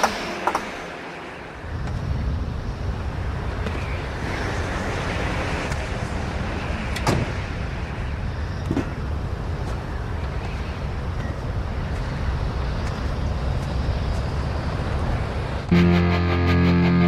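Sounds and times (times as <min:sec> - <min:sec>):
steady rumbling noise: 0:00.0 - 0:17.0.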